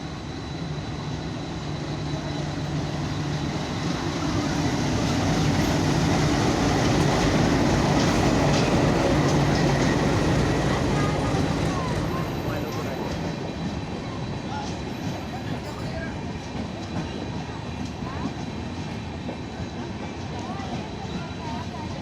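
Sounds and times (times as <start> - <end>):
fast train rushing: 0.0 - 22.0.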